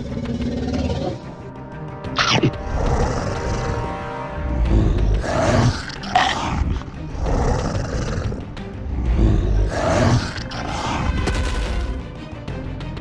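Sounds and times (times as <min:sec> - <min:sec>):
dinosaur roars: 0:00.0 - 0:01.4, 0:02.1 - 0:11.2
background music: 0:00.0 - 0:13.0.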